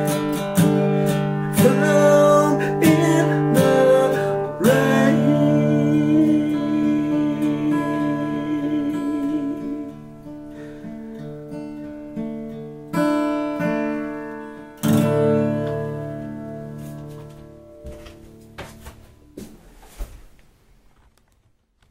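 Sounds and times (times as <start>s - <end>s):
acoustic guitar: 0.0s - 21.4s.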